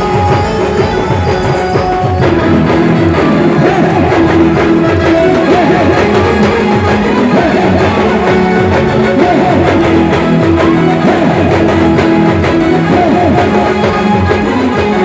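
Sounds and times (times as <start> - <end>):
steady drum beat: 0.0 - 15.0
strummed guitar: 0.0 - 15.0
wavering melodic lead: 0.0 - 15.0.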